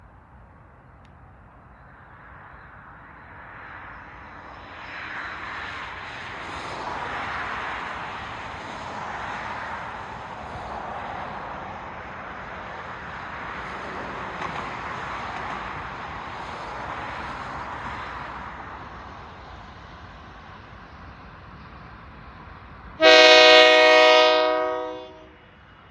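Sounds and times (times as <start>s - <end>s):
passing train rumble: 0.0s - 25.9s.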